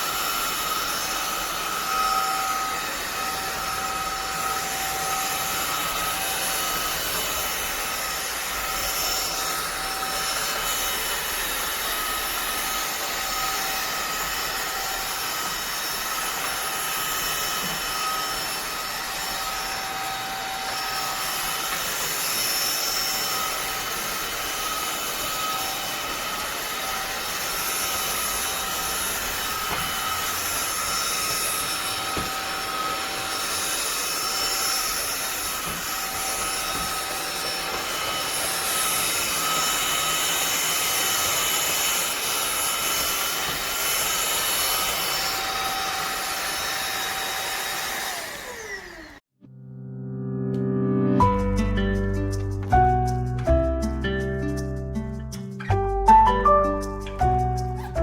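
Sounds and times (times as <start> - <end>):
vacuum cleaner whining: 0.0 - 49.4.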